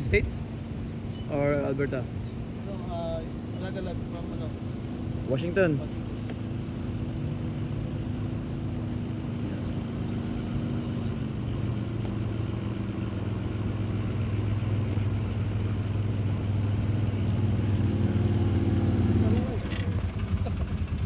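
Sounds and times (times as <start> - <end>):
truck engine running at low revs: 0.0 - 21.0.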